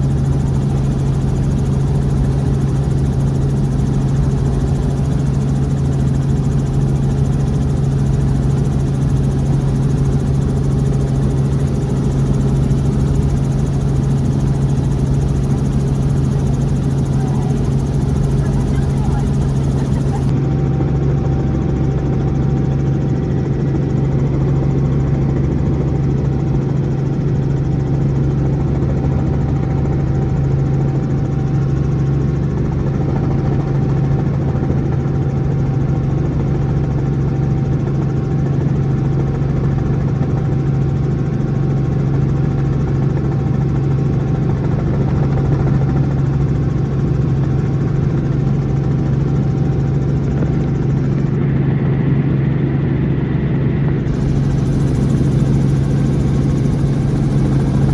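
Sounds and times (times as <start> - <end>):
helicopter engine and rotors: 0.0 - 57.9.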